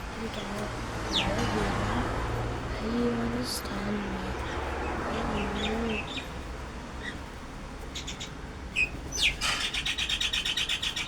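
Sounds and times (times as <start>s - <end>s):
small birds chirping: 0.0s - 2.1s, 2.8s - 11.0s.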